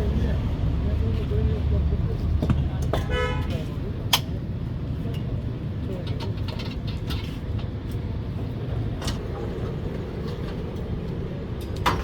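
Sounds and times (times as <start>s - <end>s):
low rumble of background noise: 0.0s - 12.0s.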